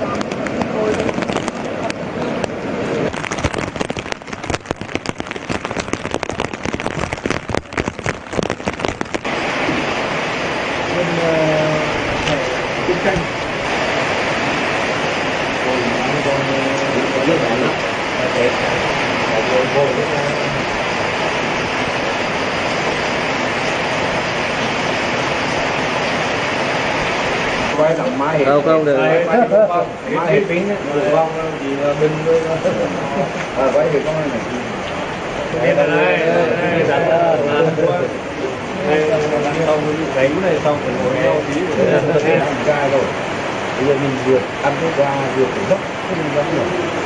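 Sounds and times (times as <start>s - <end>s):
close raindrop hits: 0.0s - 35.8s, 38.0s - 47.0s
heavy rain falling: 0.0s - 47.0s.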